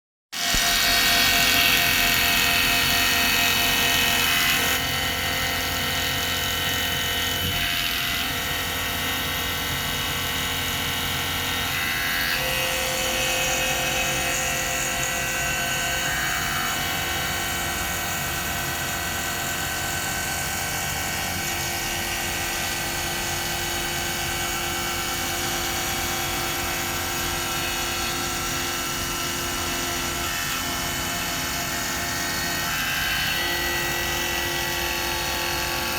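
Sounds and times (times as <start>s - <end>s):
metal cutting noise: 0.4s - 35.9s
milling machine spindle whine: 0.4s - 35.9s.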